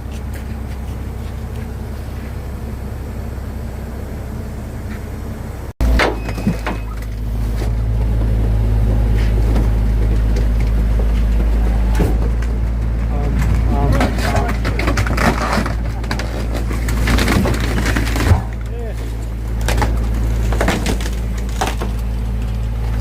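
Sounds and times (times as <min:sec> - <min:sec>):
deep rumble with knocks and clatter: 0:00.0 - 0:23.0
vehicle engine running: 0:00.0 - 0:23.0.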